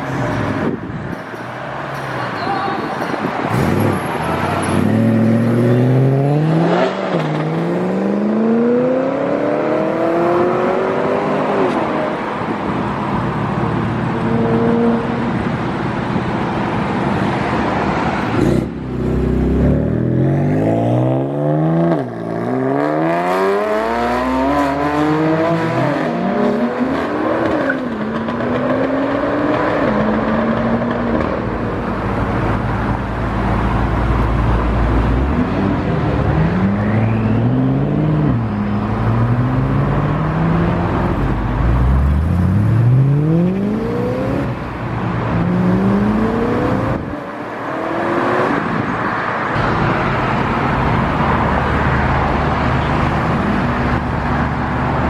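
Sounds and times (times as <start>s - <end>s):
performance cars accelerating: 3.2s - 16.6s, 17.4s - 55.0s.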